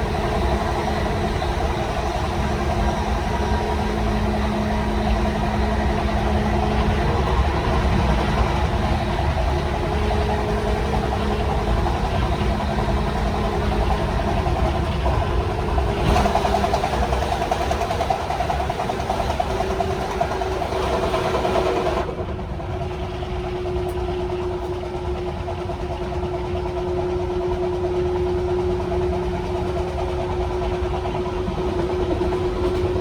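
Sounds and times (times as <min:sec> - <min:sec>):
train traction motor whine: 0:00.0 - 0:33.0
wheels rumbling on rail: 0:00.0 - 0:33.0.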